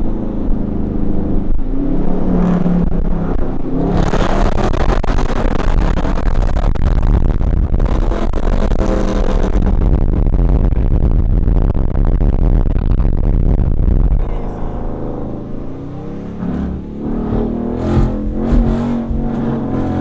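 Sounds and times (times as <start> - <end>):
car exhaust accelerating hard: 0.0 - 20.0.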